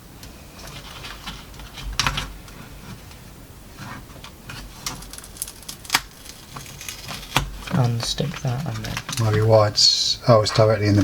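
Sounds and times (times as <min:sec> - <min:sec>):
handling rustle: 0:00.5 - 0:09.9.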